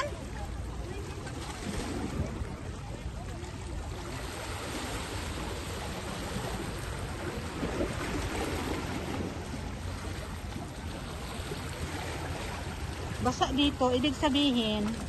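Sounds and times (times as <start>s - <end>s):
sea water sloshing among boulders: 0.0s - 15.0s.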